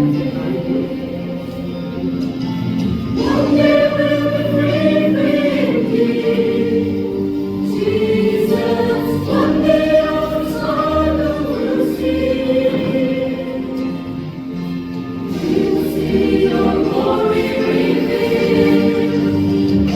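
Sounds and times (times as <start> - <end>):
choir singing in harmony: 0.0 - 19.9.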